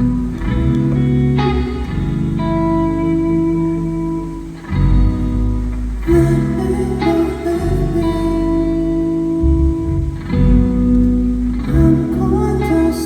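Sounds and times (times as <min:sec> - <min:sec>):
bass line: 0:00.0 - 0:13.0
guitar-led band music: 0:00.0 - 0:13.0.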